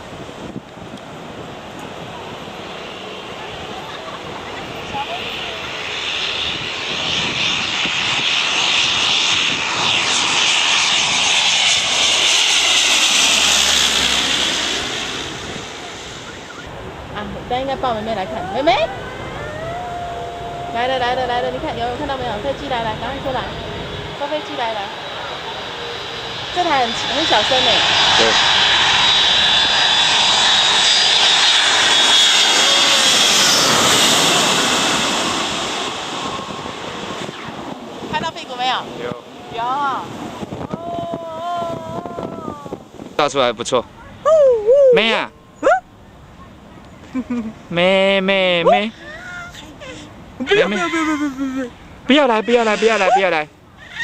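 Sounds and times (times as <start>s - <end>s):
airliner passing overhead: 0.0s - 54.0s.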